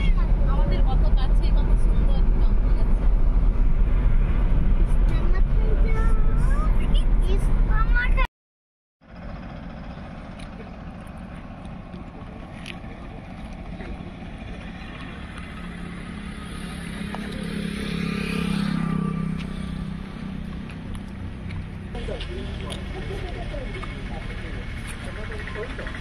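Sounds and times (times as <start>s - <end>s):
vehicle engine and road noise: 0.0s - 8.3s, 9.0s - 26.0s.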